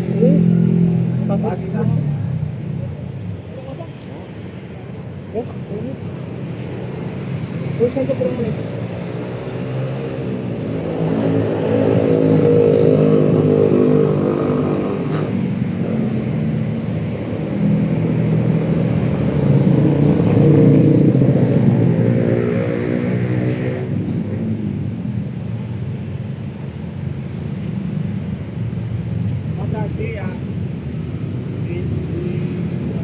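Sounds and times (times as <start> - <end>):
passing vehicle engines: 0.0 - 33.0.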